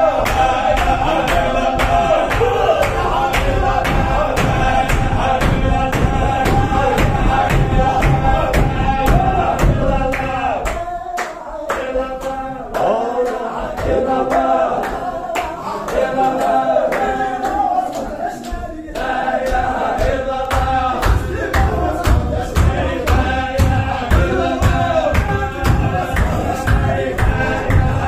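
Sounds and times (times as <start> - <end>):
sharp rhythmic strikes: 0.0 - 18.1, 19.0 - 28.0
men chanting together: 0.0 - 28.0.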